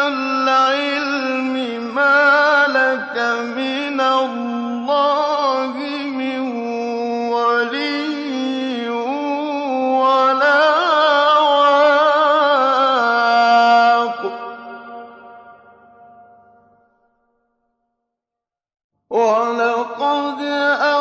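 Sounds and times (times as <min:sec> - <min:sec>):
man chanting melodically: 0:00.0 - 0:15.5, 0:19.1 - 0:21.0.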